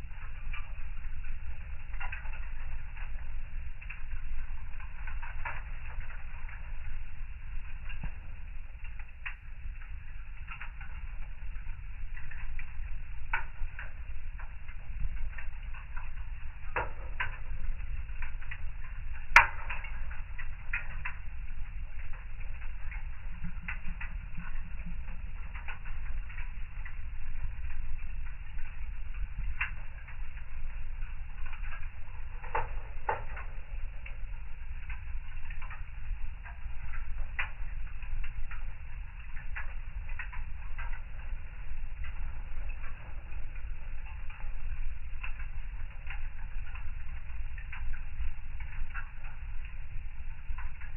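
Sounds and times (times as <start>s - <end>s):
low steady rumble: 0.0s - 50.9s
wood fire crackling and popping: 0.0s - 50.9s.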